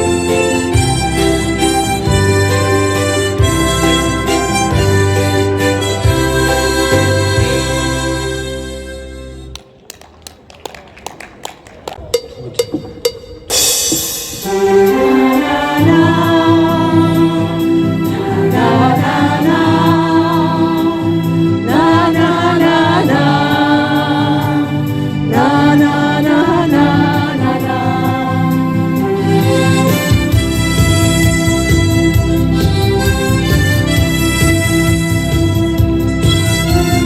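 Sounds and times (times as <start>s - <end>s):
harmonica ensemble playing slow tune: 0.0s - 9.6s, 12.6s - 37.0s.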